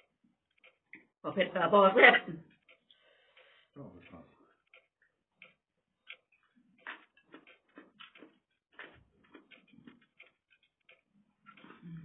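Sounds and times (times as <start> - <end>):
person chewing food: 0.0 - 1.2, 2.4 - 12.0.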